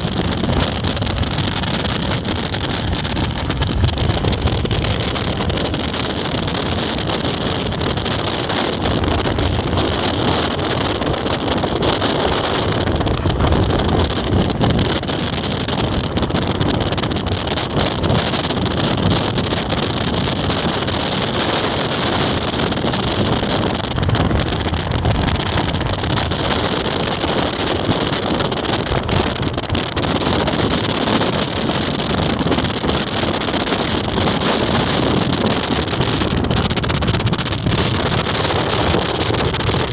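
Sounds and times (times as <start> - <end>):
gusting wind buffeting microphone: 0.0 - 39.9.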